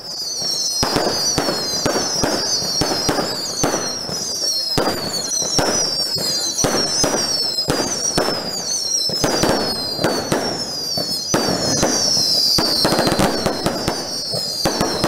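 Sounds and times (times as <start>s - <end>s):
falling fireworks whistles: 0.0s - 15.0s
fireworks bangs and crackles: 0.0s - 15.0s.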